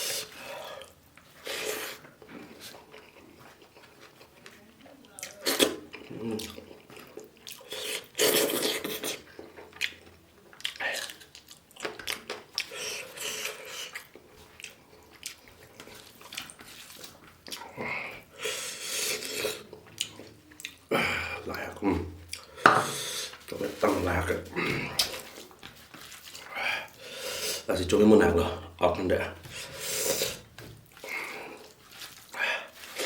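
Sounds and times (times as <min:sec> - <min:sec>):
chewing and mouth noises: 0:00.2 - 0:20.9, 0:22.2 - 0:23.8, 0:24.5 - 0:27.7, 0:29.5 - 0:33.0.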